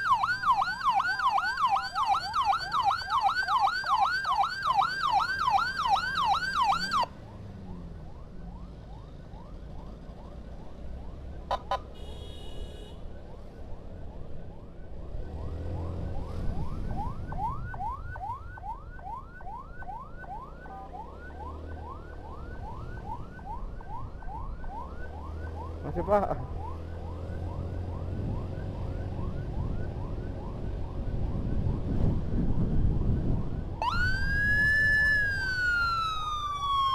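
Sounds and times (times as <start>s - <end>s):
ambulance siren yelping: 0.0s - 12.1s, 13.1s - 36.9s
road and engine rumble: 0.0s - 36.9s.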